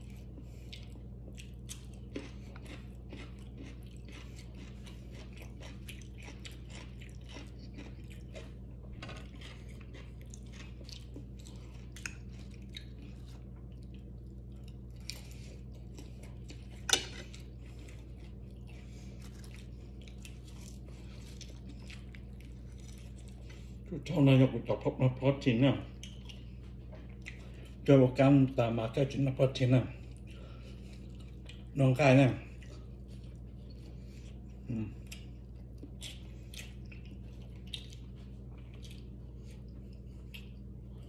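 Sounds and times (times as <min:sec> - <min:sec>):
man chewing food: 0:00.0 - 0:24.7, 0:25.4 - 0:41.0
steady low hum: 0:00.0 - 0:41.0.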